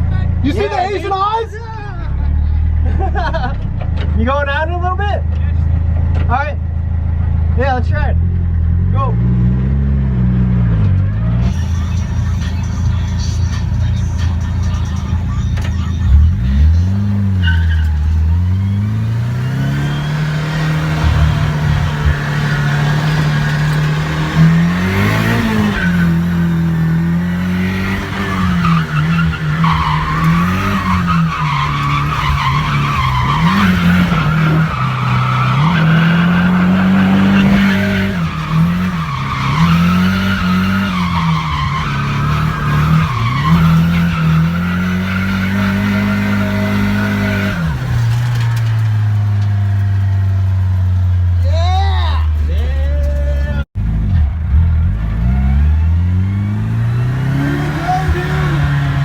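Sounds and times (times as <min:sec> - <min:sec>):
car engine revving: 0:00.0 - 0:59.0
tires squealing: 0:07.6 - 0:59.0.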